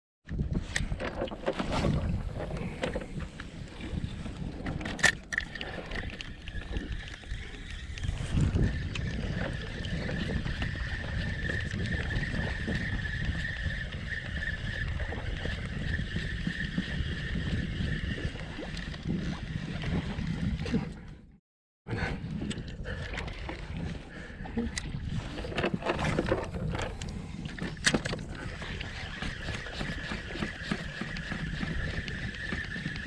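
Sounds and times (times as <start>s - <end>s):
water moving around kayak: 0.3s - 33.0s
wind rumbling on microphone: 0.3s - 33.0s.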